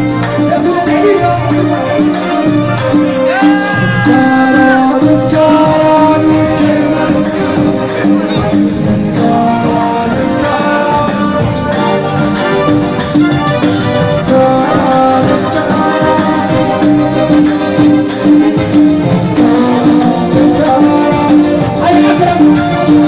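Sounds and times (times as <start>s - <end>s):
electronic keyboard melody: 0.0s - 23.0s
fast percussion beat: 0.0s - 23.0s.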